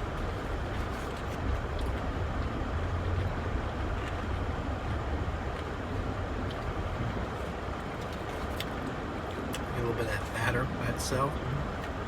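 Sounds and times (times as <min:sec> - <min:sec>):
vehicle interior rumble: 0:00.0 - 0:12.0.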